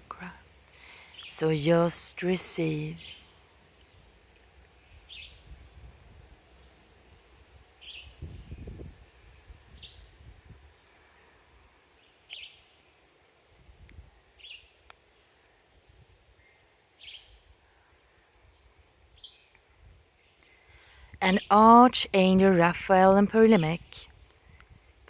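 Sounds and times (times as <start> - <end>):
steady high hum: 0.0 - 25.0.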